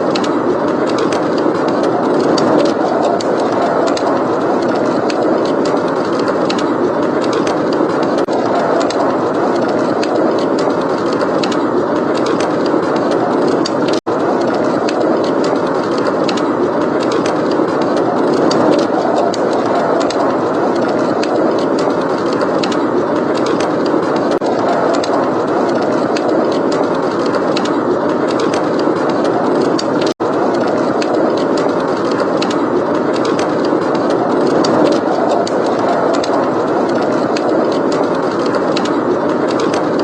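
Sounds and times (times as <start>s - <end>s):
blizzard wind blowing: 0.0s - 40.0s
fireplace crackling: 0.2s - 40.0s.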